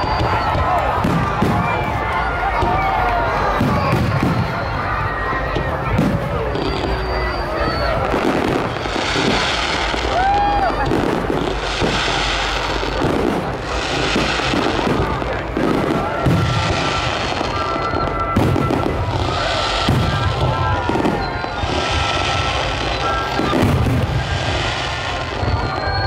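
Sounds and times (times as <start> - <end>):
fireworks booming with crackle: 0.0 - 26.0.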